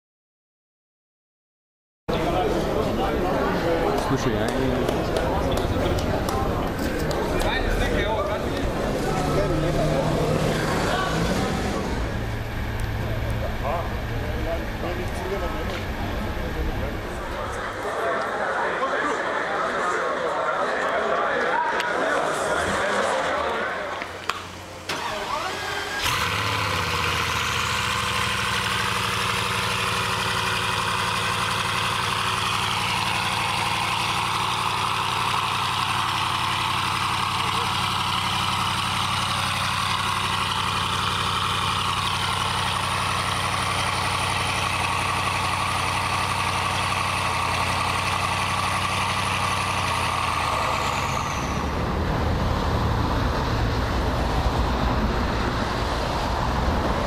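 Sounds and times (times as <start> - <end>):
car engine idling: 2.1 - 18.7, 24.3 - 57.0
rough low rumble of car engines: 2.1 - 19.5, 22.1 - 57.0.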